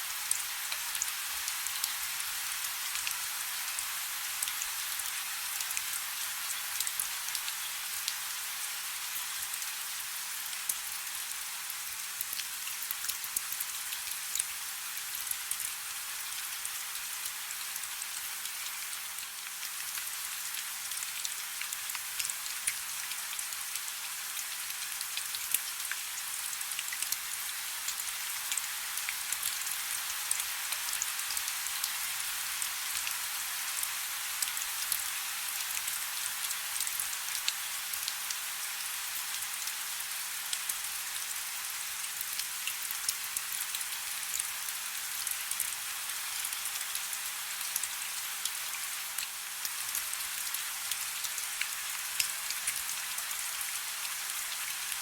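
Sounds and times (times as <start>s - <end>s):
soft rain hiss: 0.0s - 55.0s.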